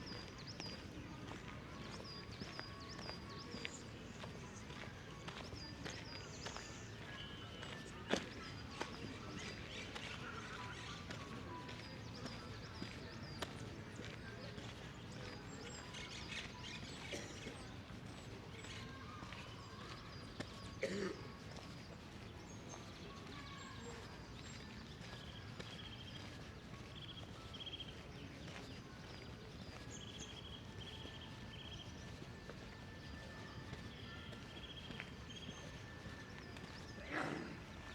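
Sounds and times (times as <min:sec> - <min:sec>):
faint footsteps: 0:00.0 - 0:37.9
small birds chirping: 0:00.0 - 0:37.9.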